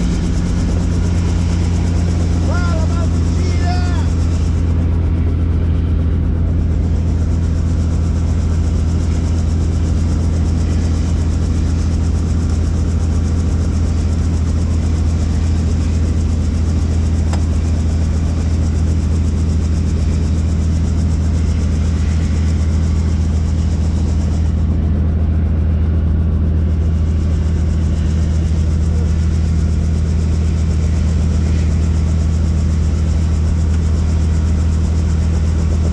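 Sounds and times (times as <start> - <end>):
helicopter drone: 0.0 - 35.9.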